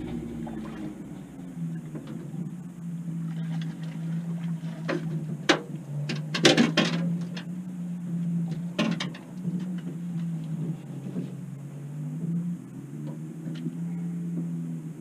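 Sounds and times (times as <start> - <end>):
boat motor hum: 0.0 - 15.0.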